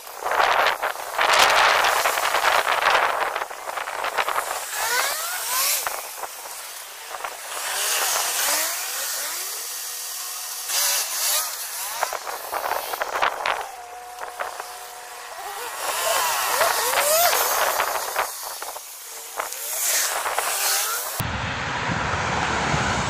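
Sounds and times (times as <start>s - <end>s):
passing vehicles hissing: 0.2s - 23.0s.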